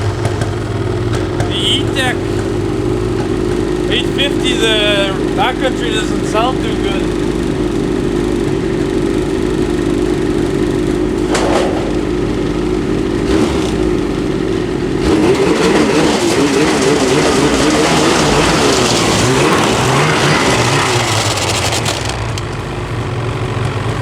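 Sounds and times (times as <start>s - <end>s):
two-stroke snowmobile engine running: 0.0s - 24.0s.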